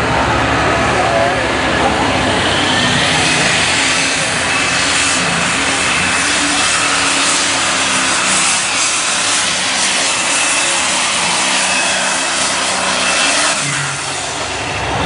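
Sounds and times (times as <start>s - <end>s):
tractor engine running flat out: 0.0s - 15.0s.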